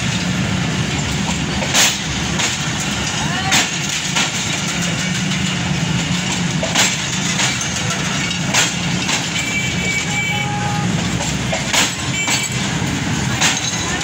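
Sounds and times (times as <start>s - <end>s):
train wheels rumbling on rail: 0.0s - 14.0s
wheels clacking on rail joints: 0.0s - 14.0s.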